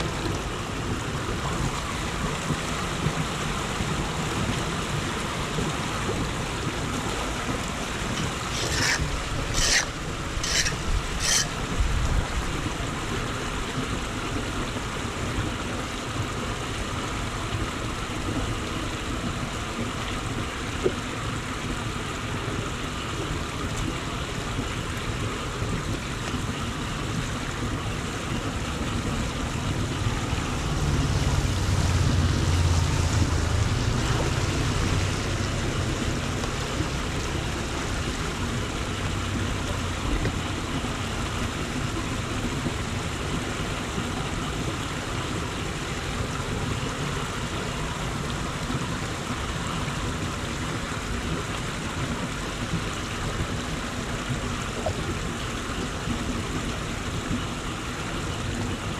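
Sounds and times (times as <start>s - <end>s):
water flowing into a drain: 0.0s - 58.9s.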